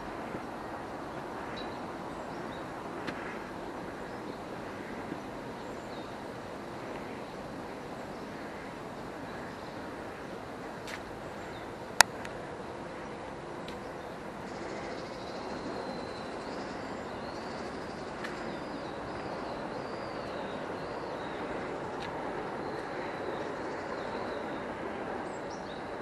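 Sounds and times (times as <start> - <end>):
distant city traffic hum: 0.0 - 26.0.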